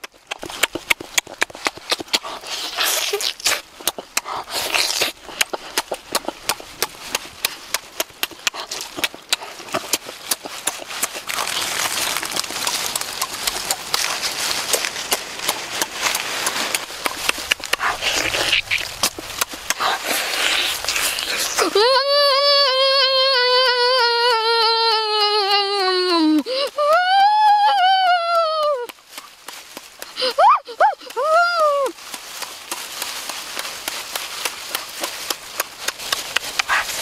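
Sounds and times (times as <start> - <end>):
meat tearing: 0.0 - 37.0
wet chewing and lip-smacking: 0.0 - 37.0.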